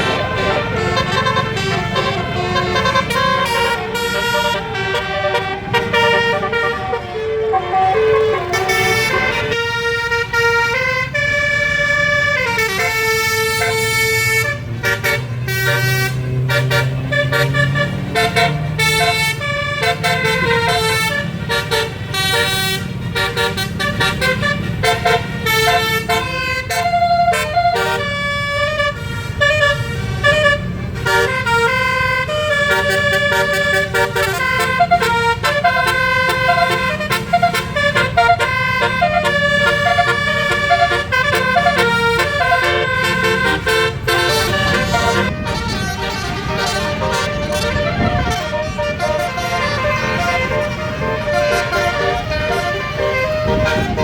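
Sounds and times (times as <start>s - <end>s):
multi-tone bus horn melody: 0.0s - 54.0s.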